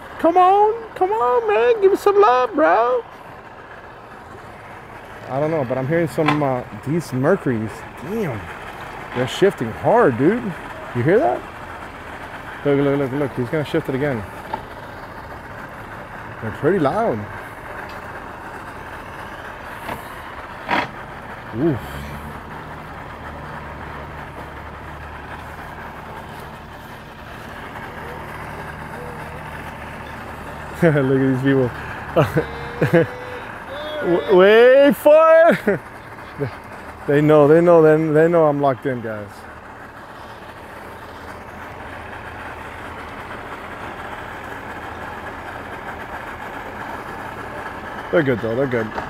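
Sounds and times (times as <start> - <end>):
outboard motors idling: 0.0 - 49.0.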